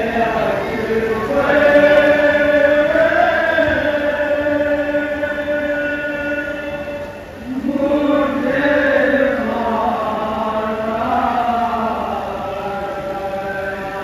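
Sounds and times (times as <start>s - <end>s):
voices chanting a lament: 0.0s - 14.0s.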